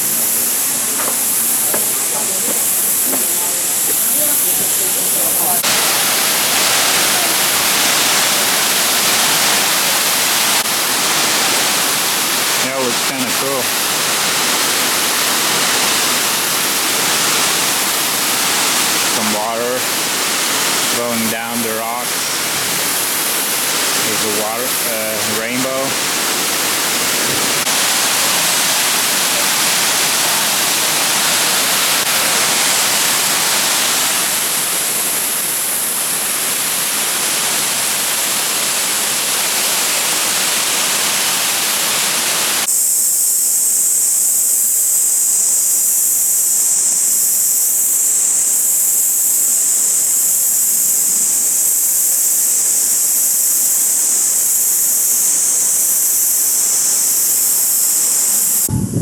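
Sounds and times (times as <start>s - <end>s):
waterfall roaring: 0.0s - 42.9s, 44.9s - 58.7s
high-pitched pulsing hiss: 0.0s - 59.0s.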